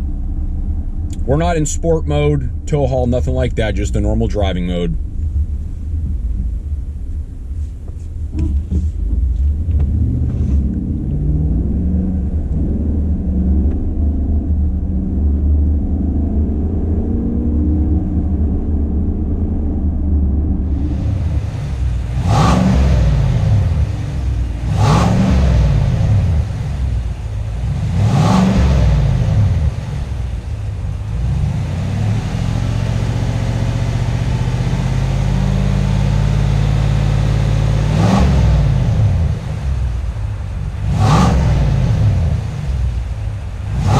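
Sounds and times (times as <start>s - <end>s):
car engine accelerating: 0.0s - 43.9s
road and wind hiss: 0.0s - 43.9s.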